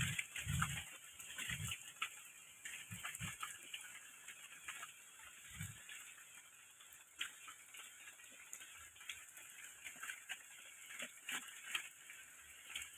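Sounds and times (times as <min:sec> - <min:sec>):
light rain hissing: 0:00.0 - 0:12.9.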